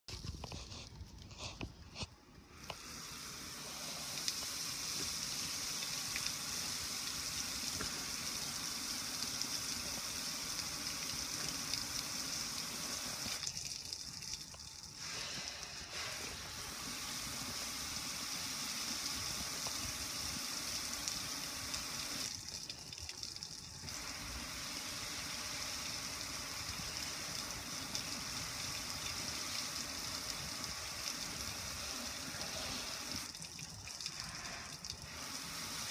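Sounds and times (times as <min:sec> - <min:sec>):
hose spraying water on metal: 0:02.5 - 0:22.9, 0:23.8 - 0:35.9
water running onto concrete: 0:02.6 - 0:35.9.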